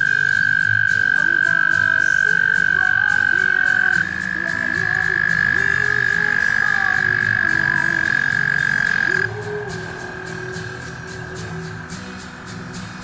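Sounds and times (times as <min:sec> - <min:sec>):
fainter lower toad trill: 0:00.0 - 0:13.0
toad trilling: 0:00.0 - 0:13.0.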